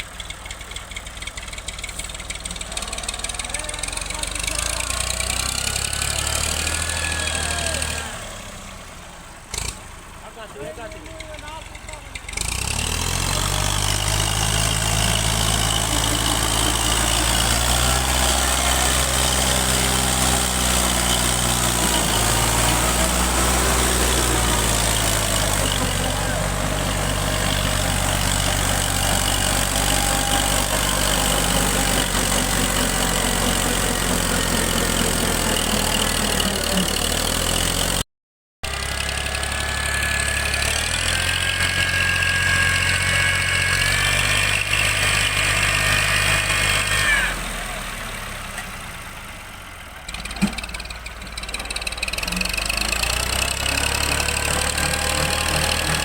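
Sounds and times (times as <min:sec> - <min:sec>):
tractor engine running: 0:00.0 - 0:38.0, 0:38.6 - 0:56.0.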